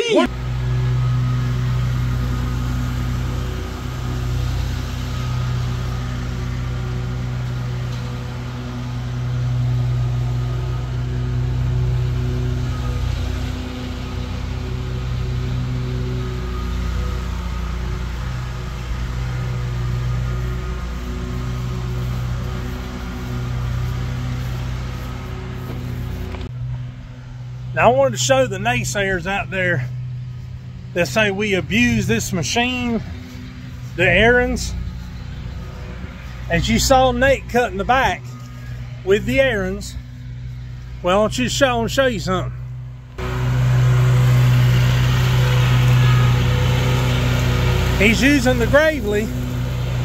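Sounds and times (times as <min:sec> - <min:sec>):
lawn mower engine running: 0:00.0 - 0:50.0.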